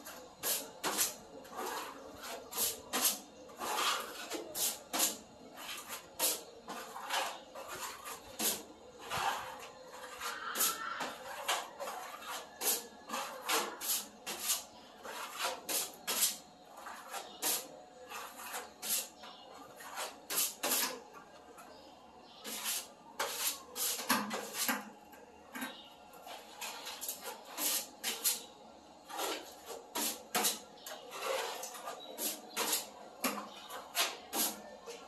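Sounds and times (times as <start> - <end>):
trowel scraping plaster: 0.0 - 35.0.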